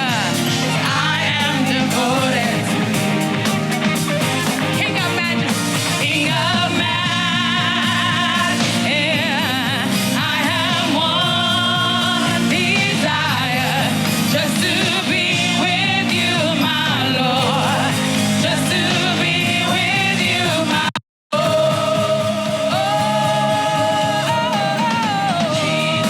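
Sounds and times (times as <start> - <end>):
band with keyboard and bass: 0.0 - 26.0
person singing with vibrato: 0.0 - 26.0.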